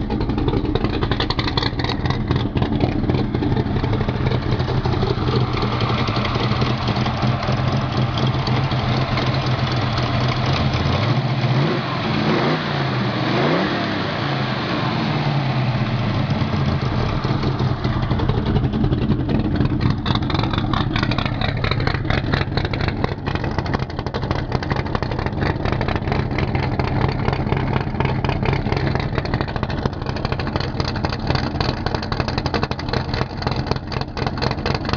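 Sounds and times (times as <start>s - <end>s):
race car engine revving and idling: 0.0s - 34.9s.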